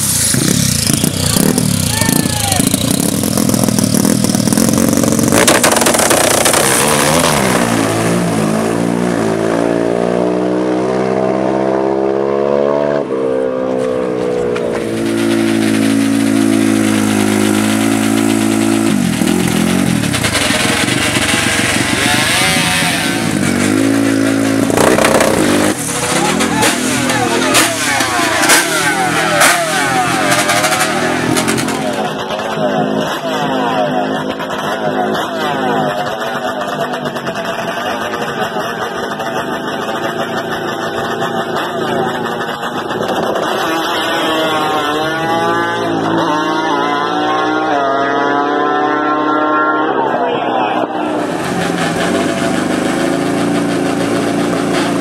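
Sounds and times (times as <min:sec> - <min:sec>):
racing engine accelerating: 0:00.0 - 0:55.0.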